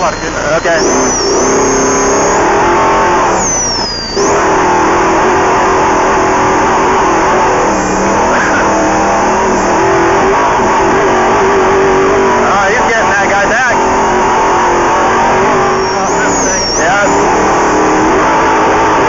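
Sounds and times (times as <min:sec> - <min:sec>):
race vehicle engine running hard: 0:00.0 - 0:19.0.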